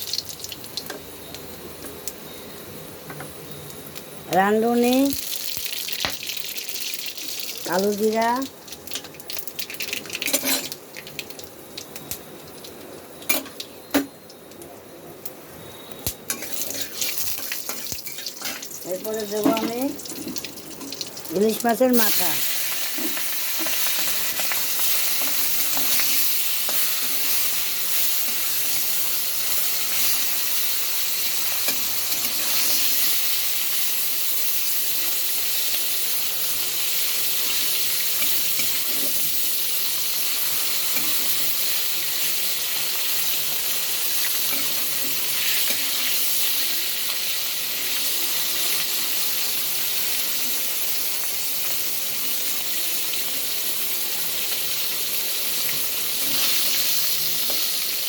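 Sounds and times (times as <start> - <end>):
fish frying in hot oil: 0.0 - 2.3, 3.7 - 14.4, 16.1 - 58.0.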